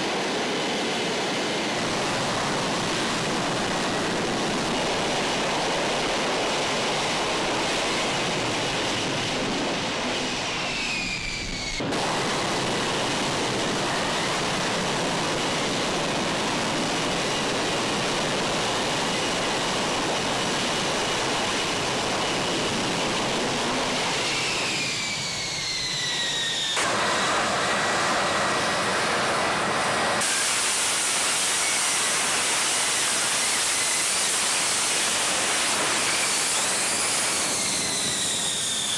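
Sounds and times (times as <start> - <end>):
jet engine roaring in hover: 0.0 - 38.9.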